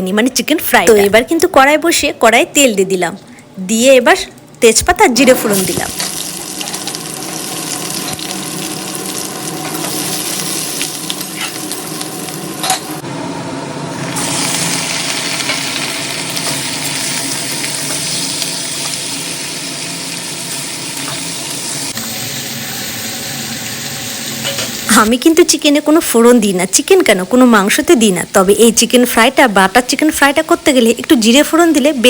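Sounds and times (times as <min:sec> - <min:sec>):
hot oil sizzling: 0:05.3 - 0:13.0, 0:13.9 - 0:32.0.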